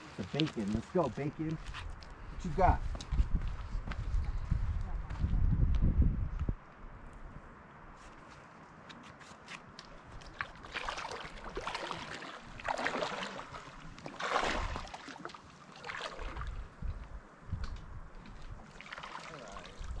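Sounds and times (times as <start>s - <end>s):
footsteps sloshing through water: 0.0s - 4.8s, 8.1s - 20.0s.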